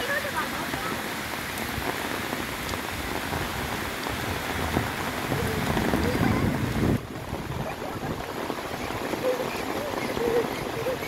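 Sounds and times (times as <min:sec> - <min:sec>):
heavy rain on umbrella: 0:00.0 - 0:11.0.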